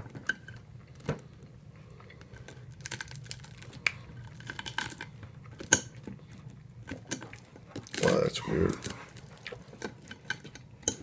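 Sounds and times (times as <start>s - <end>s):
chewing and crunching food: 0.0s - 11.0s.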